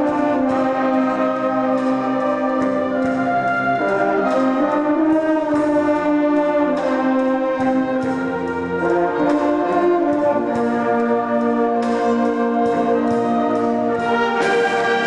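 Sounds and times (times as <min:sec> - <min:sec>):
brass sustained chords: 0:00.0 - 0:15.0
wind band playing: 0:00.0 - 0:15.0.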